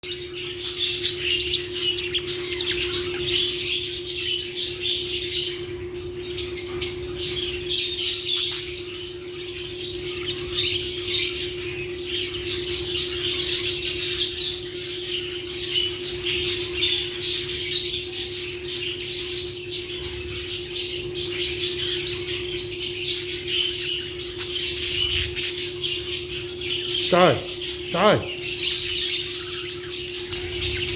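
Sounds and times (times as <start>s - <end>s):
birds chirping and squawking: 0.0s - 30.9s.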